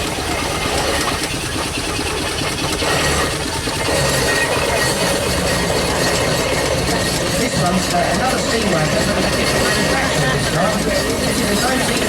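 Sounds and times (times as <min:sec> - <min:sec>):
steam road engine rumbling: 0:00.0 - 0:12.0.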